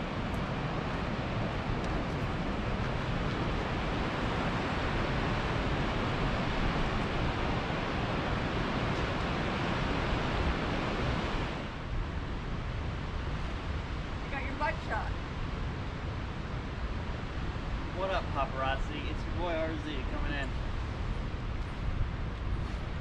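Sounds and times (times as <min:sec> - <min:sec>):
ocean surf rushing: 0:00.0 - 0:23.0
wind on microphone: 0:00.0 - 0:23.0.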